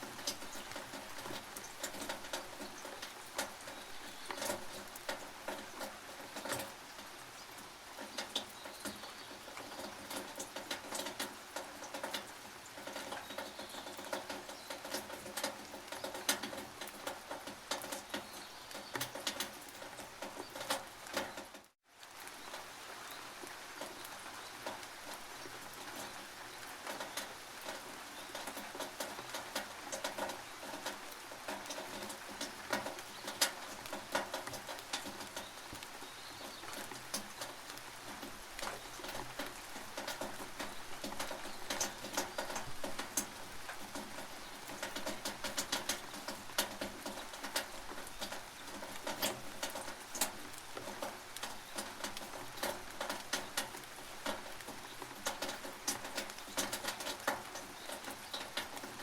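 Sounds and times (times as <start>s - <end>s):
rain dripping on a tin roof: 0.0s - 59.0s.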